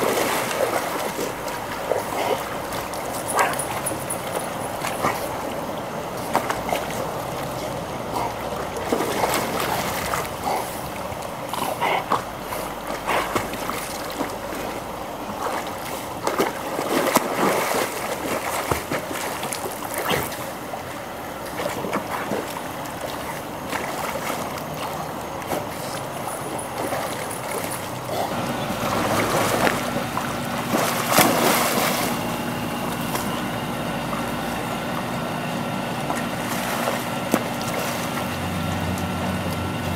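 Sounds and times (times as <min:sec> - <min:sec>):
dogs splashing in pool water: 0:00.0 - 0:39.9
steady hum: 0:00.0 - 0:39.9.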